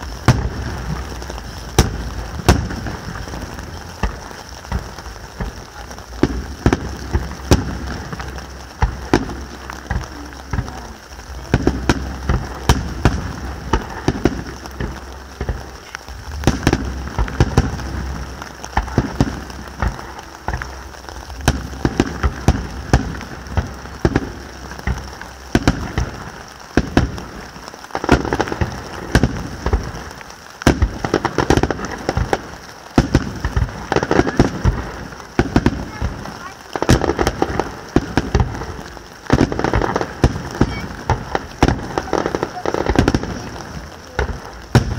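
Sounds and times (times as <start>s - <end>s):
fireworks bursting with sharp bangs: 0.0s - 44.9s
fireworks crackling: 0.0s - 44.9s.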